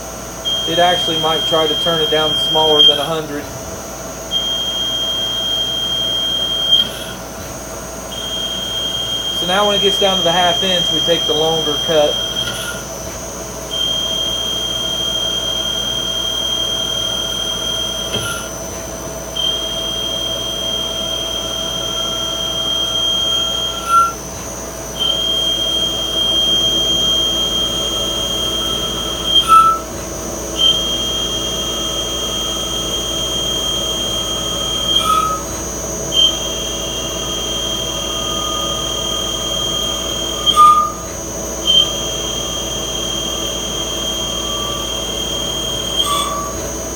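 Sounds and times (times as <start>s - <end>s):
lathe cutting whine: 0.0s - 46.9s
machine hum: 0.0s - 46.9s.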